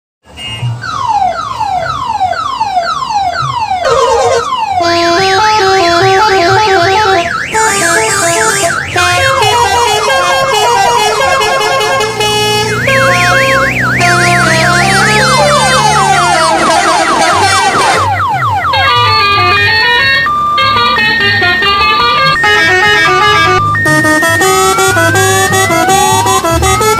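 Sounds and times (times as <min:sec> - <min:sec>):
multi-tone bus horn tunes: 0:00.3 - 0:00.8, 0:03.8 - 0:26.9.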